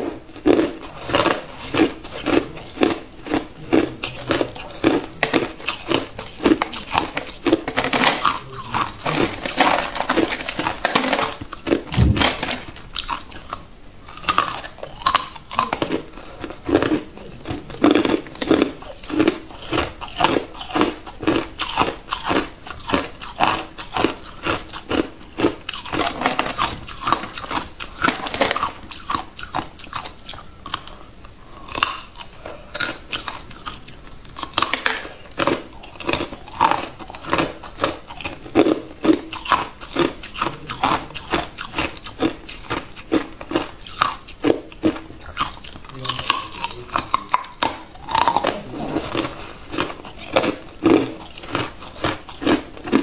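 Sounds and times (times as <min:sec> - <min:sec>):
person crunching ice cubes: 0:00.0 - 0:30.8, 0:31.6 - 0:53.0.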